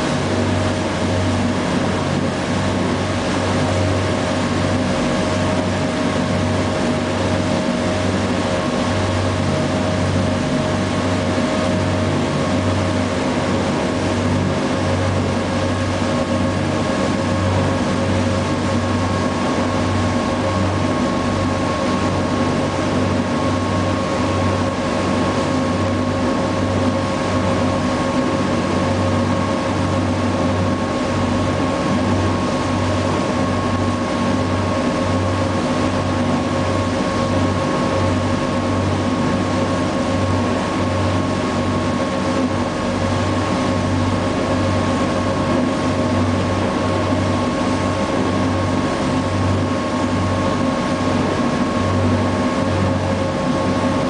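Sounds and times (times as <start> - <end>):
boat engine pulsing drone: 0.0 - 54.0
steady hum: 0.0 - 54.0.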